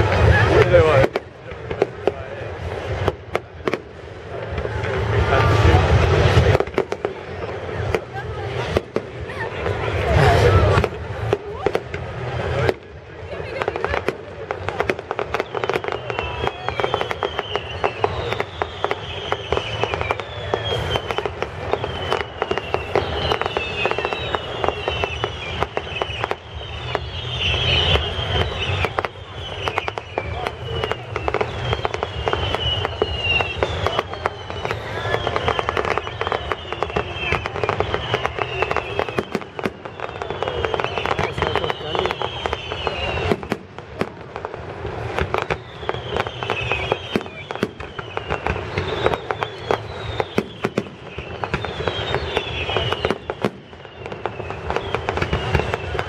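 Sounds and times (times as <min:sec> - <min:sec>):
fireworks crackling and popping: 0:00.0 - 0:56.0
fireworks whistling: 0:00.0 - 0:56.0.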